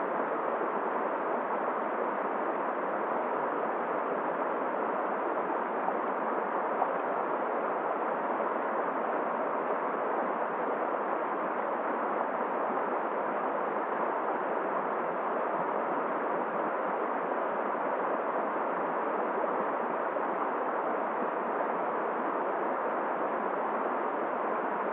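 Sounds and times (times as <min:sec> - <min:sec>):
blizzard wind: 0:00.0 - 0:24.9
river flowing: 0:00.0 - 0:24.9.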